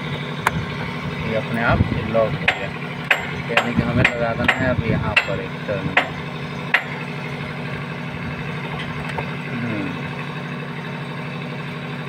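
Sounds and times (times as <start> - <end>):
machinery droning: 0.0 - 12.0.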